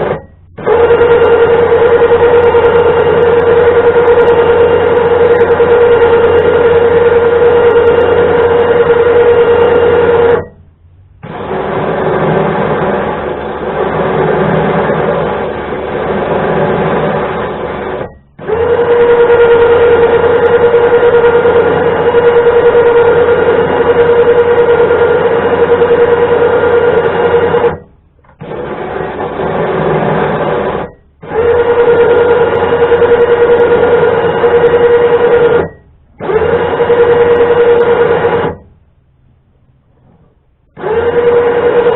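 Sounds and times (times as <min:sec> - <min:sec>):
electric winch motor running: 0:00.0 - 0:10.6, 0:11.2 - 0:38.6, 0:40.8 - 0:41.9
winch motor whine: 0:00.0 - 0:38.9, 0:39.5 - 0:41.9.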